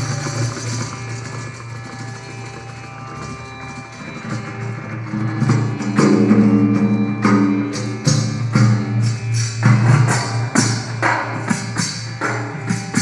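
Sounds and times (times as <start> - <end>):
tabla strokes: 0.0 - 13.0.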